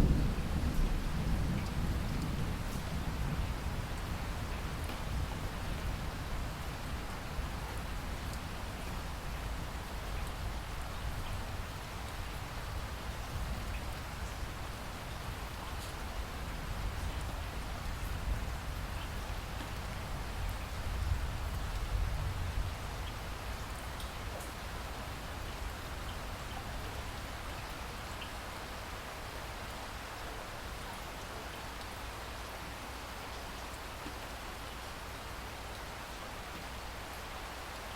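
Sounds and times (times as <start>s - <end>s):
faint raindrop ticks: 0.0s - 3.3s, 3.9s - 5.3s, 6.8s - 14.5s, 15.4s - 24.7s, 25.4s - 28.4s, 29.6s - 37.9s
steady rain hiss: 0.0s - 37.9s.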